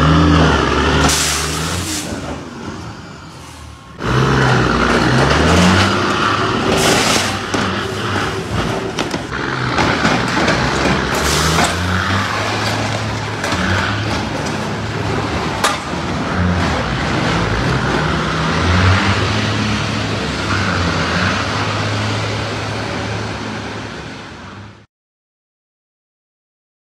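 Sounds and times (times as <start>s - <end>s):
traffic rumble: 0.0s - 24.9s.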